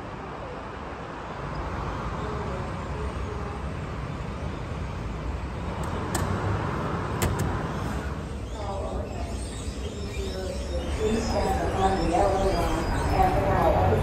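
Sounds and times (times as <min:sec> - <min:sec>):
low rumble of traffic: 0:00.0 - 0:14.0
station ambience: 0:00.0 - 0:14.0.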